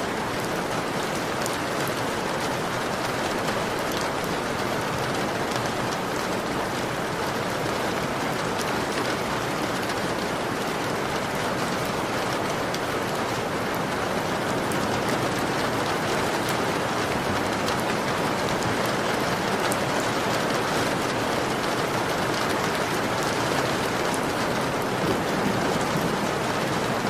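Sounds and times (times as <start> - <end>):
heavy rain on a window: 0.0 - 27.0.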